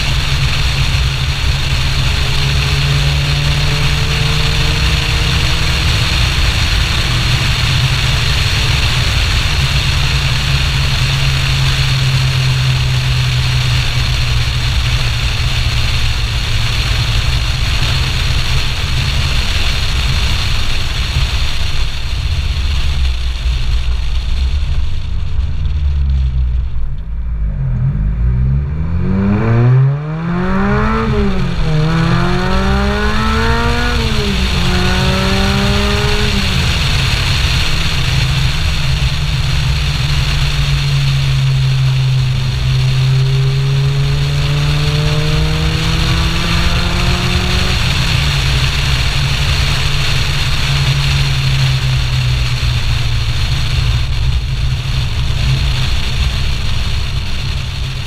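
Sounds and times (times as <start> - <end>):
car engine accelerating: 0.0 - 58.0
wind rush on camera: 0.0 - 58.0.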